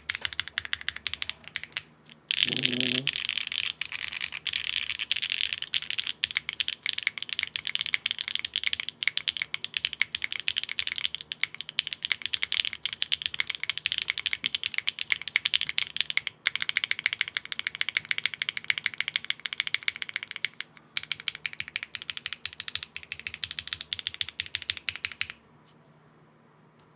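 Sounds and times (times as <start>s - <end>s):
mechanical keyboard typing: 0.0s - 25.4s.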